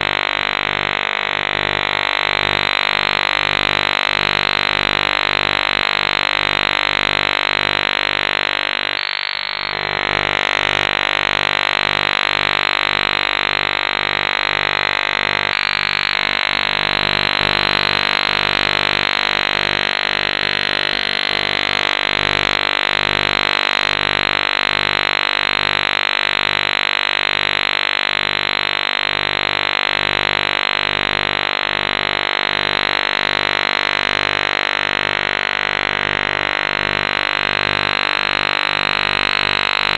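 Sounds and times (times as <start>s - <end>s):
fuzzy electronic drone: 0.0s - 39.9s.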